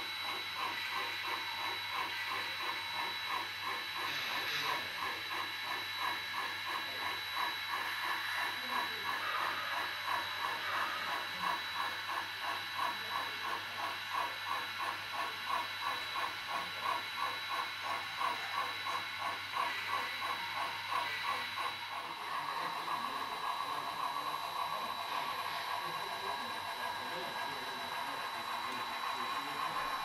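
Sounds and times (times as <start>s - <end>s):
model steam locomotive chuffing: 0.0s - 30.0s.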